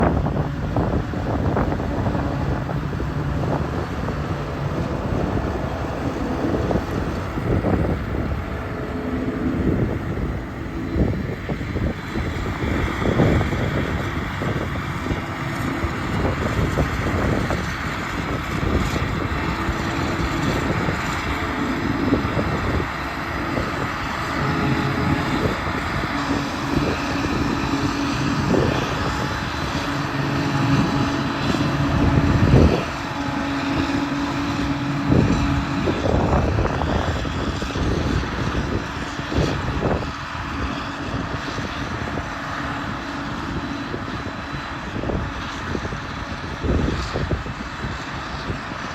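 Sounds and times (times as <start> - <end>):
heavy diesel engines droning: 0.0 - 48.9.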